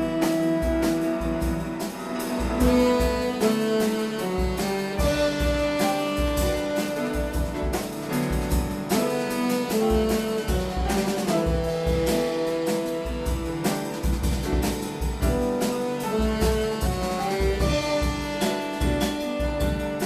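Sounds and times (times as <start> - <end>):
drum kit with cymbals: 0.0 - 20.0
piano: 0.0 - 20.0
saxophone melody: 0.0 - 20.0.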